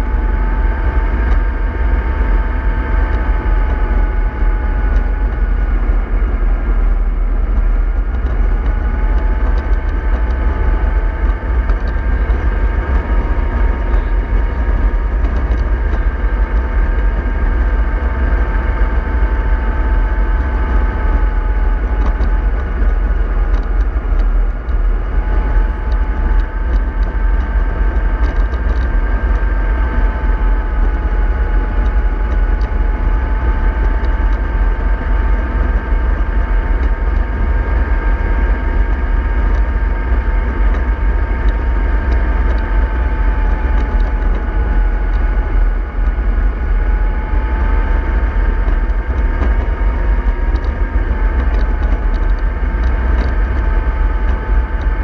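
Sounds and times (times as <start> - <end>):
model bus motor rumble and whine: 0.0 - 55.0.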